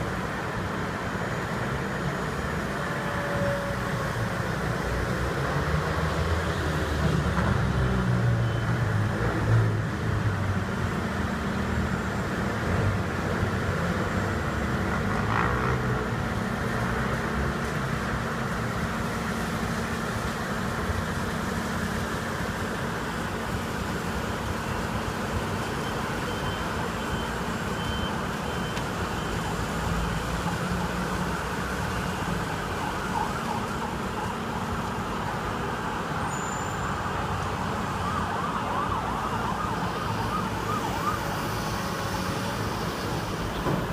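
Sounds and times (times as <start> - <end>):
construction machinery engine drone: 0.0 - 43.9.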